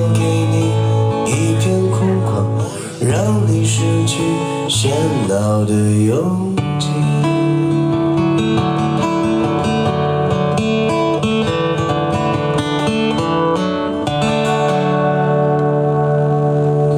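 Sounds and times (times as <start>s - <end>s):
acoustic guitar picking: 0.0s - 16.9s.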